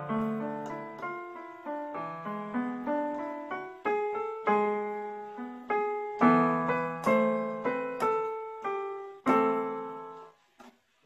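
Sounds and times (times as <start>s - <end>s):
electronic keyboard melody: 0.0s - 10.4s.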